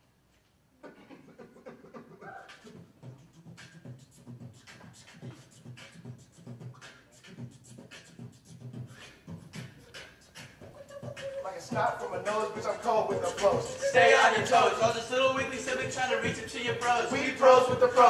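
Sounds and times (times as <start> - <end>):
beatboxing hip-hop beat: 0.8 - 18.0.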